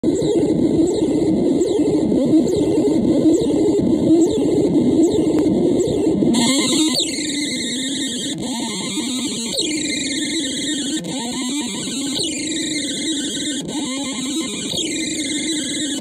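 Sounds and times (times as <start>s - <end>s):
harsh noise drone: 0.0s - 16.0s.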